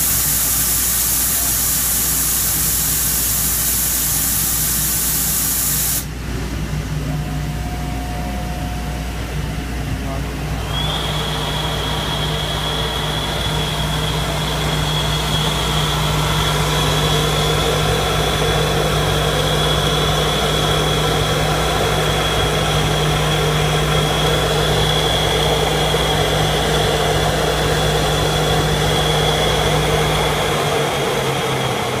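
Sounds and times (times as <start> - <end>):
drilling machine humming and whining: 0.0 - 32.0
low hum: 6.1 - 32.0.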